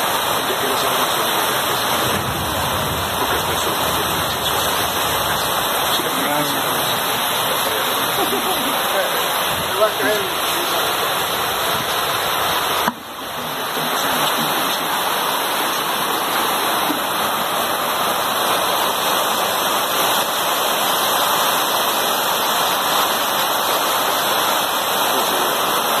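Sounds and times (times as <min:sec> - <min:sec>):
rain on a corrugated roof: 0:00.0 - 0:26.0.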